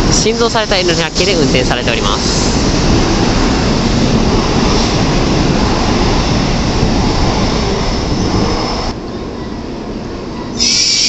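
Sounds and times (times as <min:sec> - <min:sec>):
train running past: 0:00.0 - 0:11.0.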